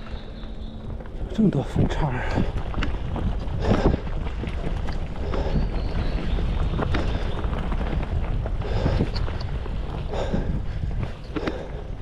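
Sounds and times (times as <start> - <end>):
bike clicks and rattles: 0.0 - 12.0
tyres rolling on dirt: 0.0 - 12.0
wind rumble on microphone: 0.0 - 12.0.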